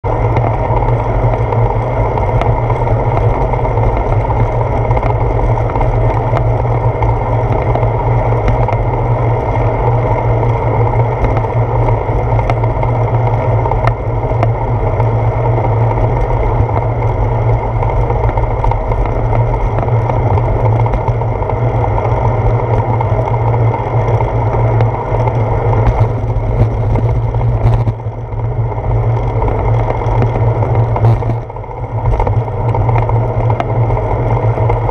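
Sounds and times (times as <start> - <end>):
bicycle road rumble: 0.0 - 34.9
wind rushing on camera: 0.0 - 34.9.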